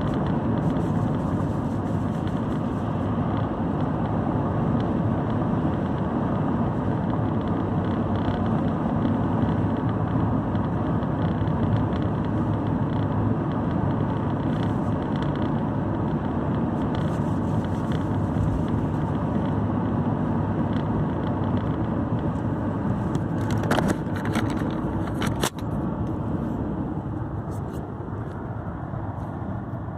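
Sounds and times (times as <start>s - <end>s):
car road and engine noise: 0.0s - 29.9s.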